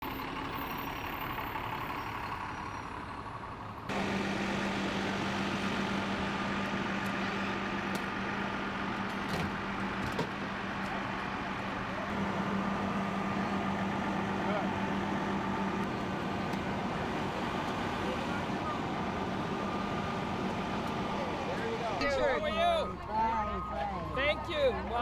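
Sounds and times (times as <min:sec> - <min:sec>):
bus engines humming: 0:00.0 - 0:25.0.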